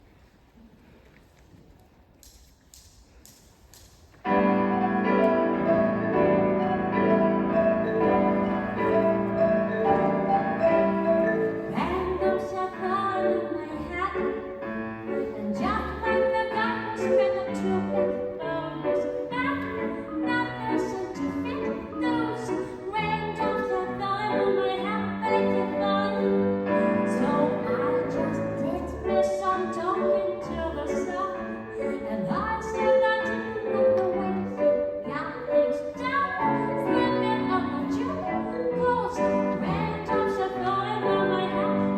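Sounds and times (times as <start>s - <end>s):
held music notes: 4.2s - 41.9s.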